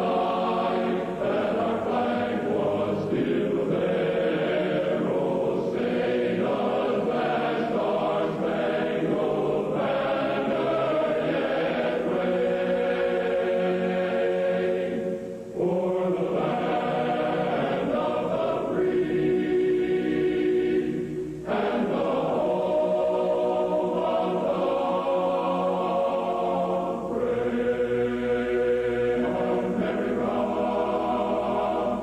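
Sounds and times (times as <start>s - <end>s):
choir breaths: 0.0s - 32.0s
choir singing sustained chords: 0.0s - 32.0s.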